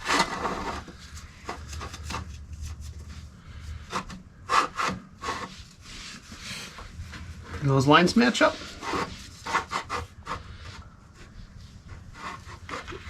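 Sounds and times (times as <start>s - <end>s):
parts rubbing and scraping: 0.0s - 13.0s.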